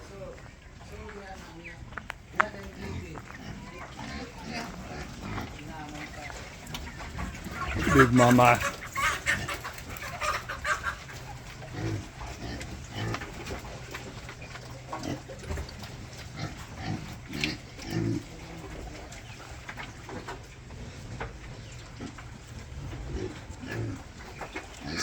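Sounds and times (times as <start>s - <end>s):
pigs grunting: 0.0s - 25.0s.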